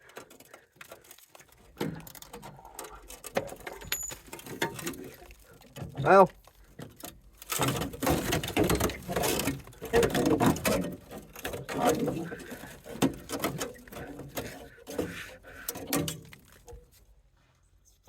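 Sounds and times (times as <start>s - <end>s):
hand tools clattering on metal: 1.6s - 16.7s.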